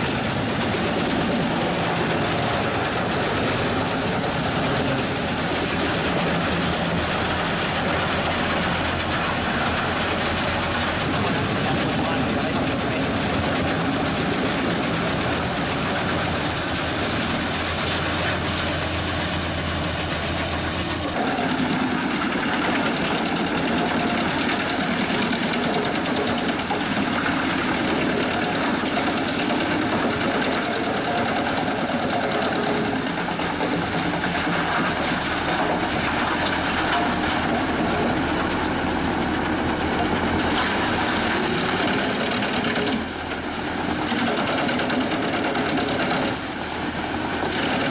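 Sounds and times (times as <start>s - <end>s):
tractor engine: 0.0s - 47.9s
wood chipper running: 0.0s - 47.9s.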